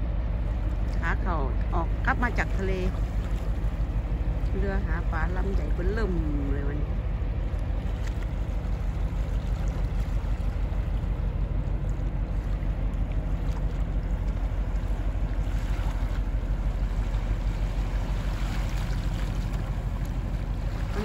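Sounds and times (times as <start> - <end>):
ship diesel engine throb: 0.0 - 21.0.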